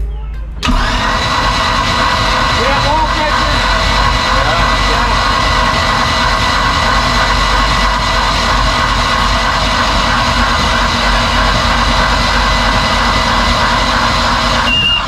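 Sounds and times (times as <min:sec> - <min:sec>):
electric drill whining: 0:00.6 - 0:15.0.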